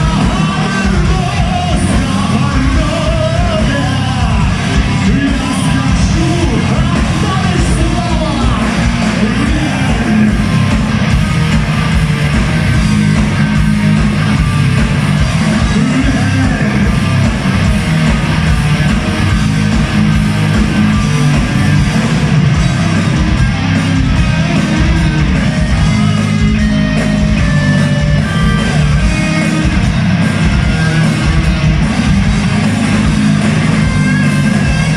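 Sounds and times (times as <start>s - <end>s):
metal band playing live: 0.0s - 34.9s.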